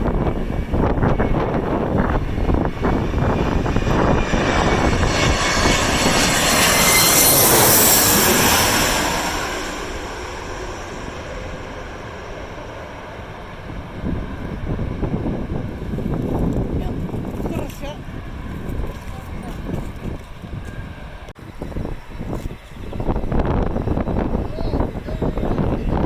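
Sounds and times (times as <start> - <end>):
airliner passing overhead: 0.0 - 26.0
wind buffeting microphone: 0.0 - 26.0.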